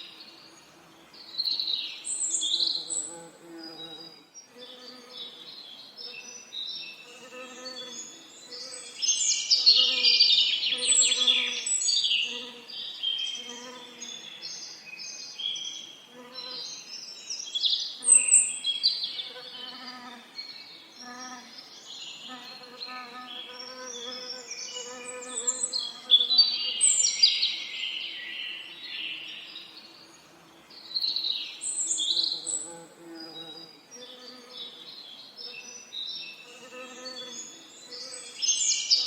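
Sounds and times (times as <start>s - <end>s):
birds singing chirping phrases: 0.0s - 39.0s.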